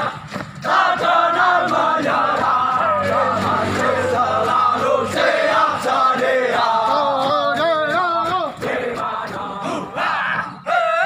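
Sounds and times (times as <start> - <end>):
men chanting running cadence: 0.0 - 11.0.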